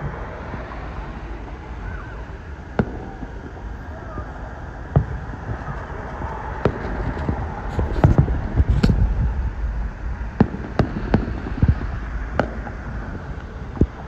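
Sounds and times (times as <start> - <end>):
fireworks bangs: 0.0 - 14.0
low rumble: 0.0 - 14.0.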